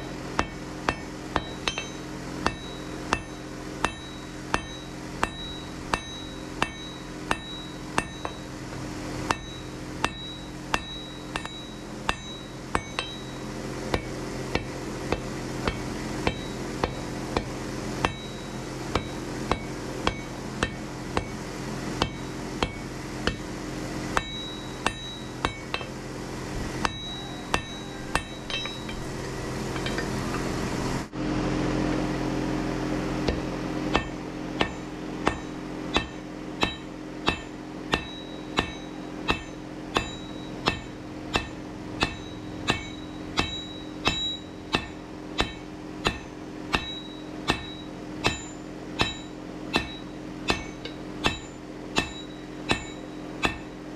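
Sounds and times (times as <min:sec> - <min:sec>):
hammer striking steel on anvil: 0:00.0 - 0:21.4, 0:22.0 - 0:31.1, 0:33.3 - 0:53.9
steady low drone: 0:00.0 - 0:53.9.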